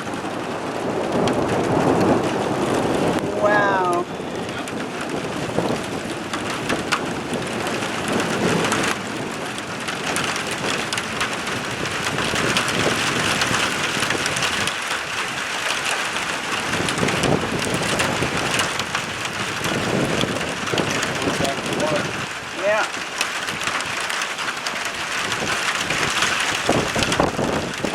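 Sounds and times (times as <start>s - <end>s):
heavy rain hissing: 0.0s - 27.9s
raindrops ticking close by: 0.0s - 27.9s.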